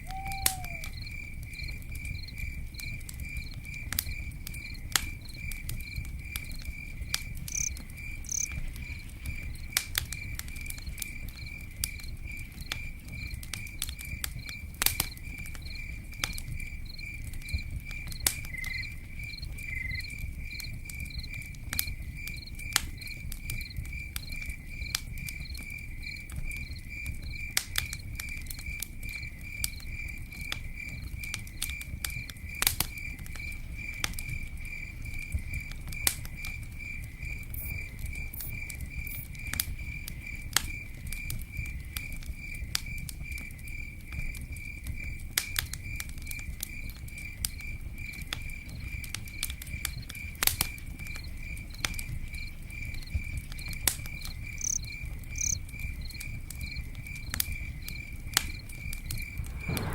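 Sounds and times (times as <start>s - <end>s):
campfire crackling: 0.0s - 59.9s
cricket chirping: 0.0s - 59.9s.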